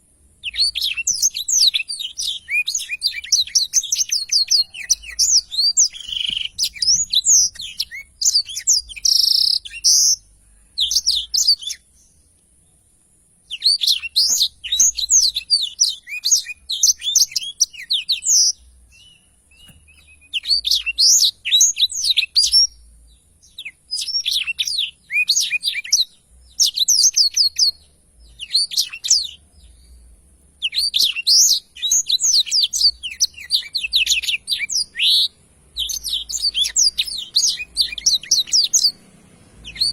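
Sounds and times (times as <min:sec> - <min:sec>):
canary singing: 0:00.0 - 0:12.4, 0:13.4 - 0:39.9.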